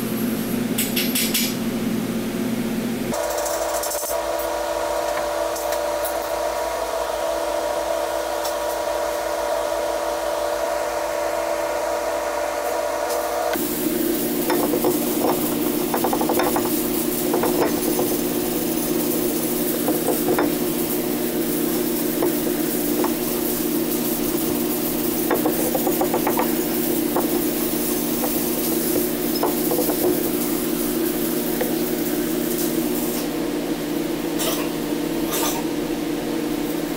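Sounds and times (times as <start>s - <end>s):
low machine hum: 0.0s - 36.9s.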